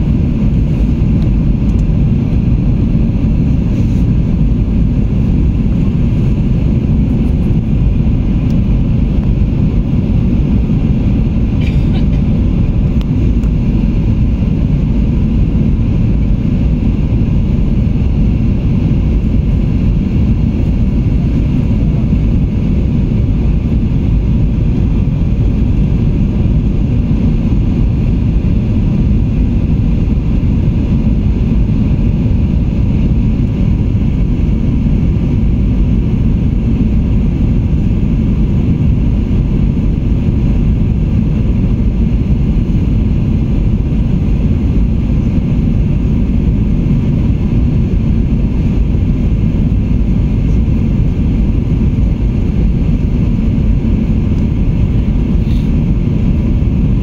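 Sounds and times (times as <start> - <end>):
aircraft engine rumble: 0.0 - 57.0.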